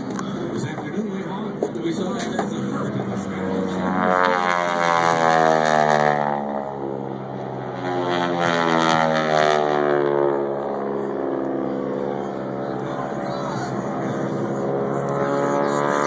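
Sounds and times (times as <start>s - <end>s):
propeller airplane engine: 0.0s - 16.0s.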